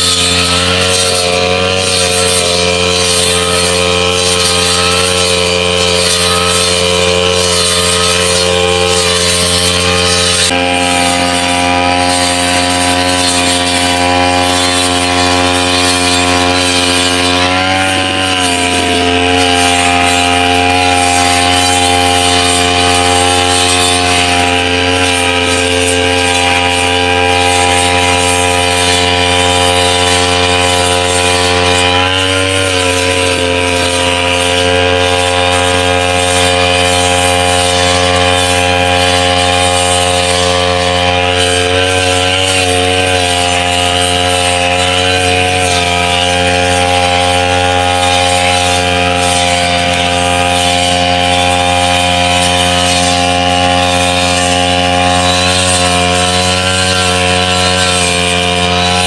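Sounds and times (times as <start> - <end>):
brush cutter running: 0.0 - 59.0.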